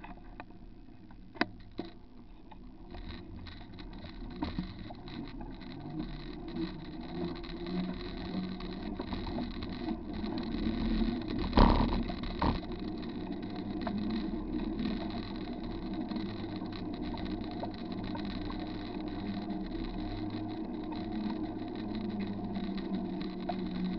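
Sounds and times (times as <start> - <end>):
bicycle tyre and wind noise: 0.0 - 23.9
small rattling clicks: 0.0 - 23.9.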